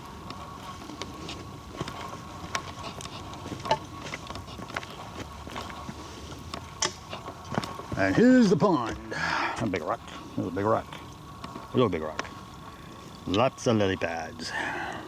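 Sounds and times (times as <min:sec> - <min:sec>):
footsteps on forest trail: 0:00.0 - 0:13.2
faint steady whine: 0:00.0 - 0:15.0.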